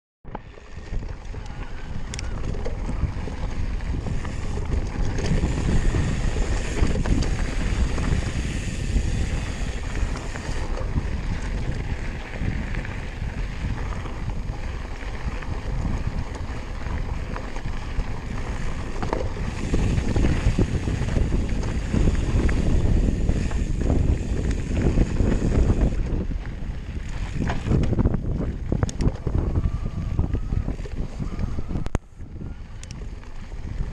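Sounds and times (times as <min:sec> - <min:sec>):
tyres rolling over gravel: 0:00.3 - 0:31.8
wind buffeting microphone: 0:00.3 - 0:33.9.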